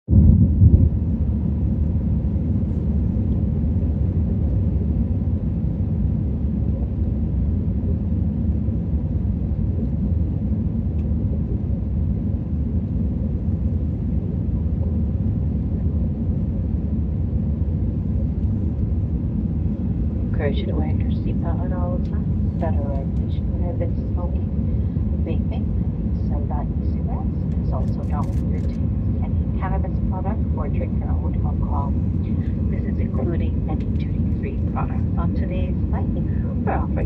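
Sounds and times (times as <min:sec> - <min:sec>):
aircraft engine drone in cabin: 0:00.1 - 0:37.0
faint steady hum: 0:00.1 - 0:37.0.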